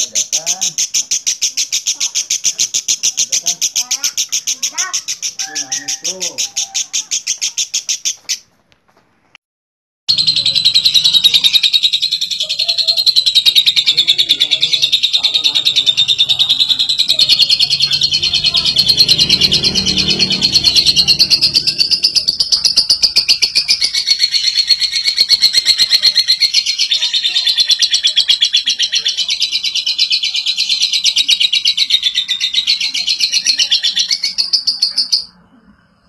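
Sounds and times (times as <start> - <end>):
lovebird chattering song: 0.0 - 8.5, 10.1 - 35.4.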